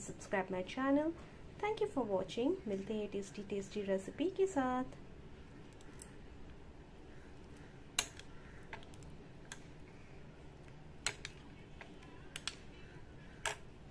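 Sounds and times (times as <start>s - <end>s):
low background hum: 0.0s - 13.9s.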